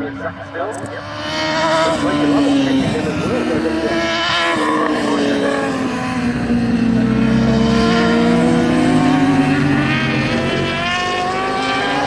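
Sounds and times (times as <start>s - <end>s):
motorcycle engines revving high: 0.0s - 12.0s.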